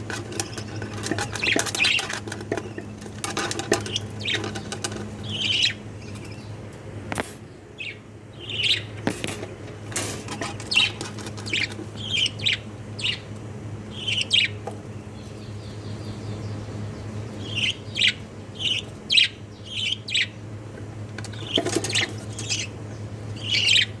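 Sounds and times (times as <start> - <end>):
budgerigars chirping: 0.0 - 6.6, 7.8 - 9.0, 10.4 - 13.3, 13.9 - 20.4, 21.3 - 24.0.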